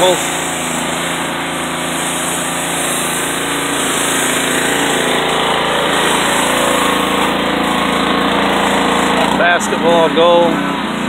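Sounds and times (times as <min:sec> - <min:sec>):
high-pressure spray hissing: 0:00.0 - 0:11.0
pressure washer motor droning: 0:00.0 - 0:11.0.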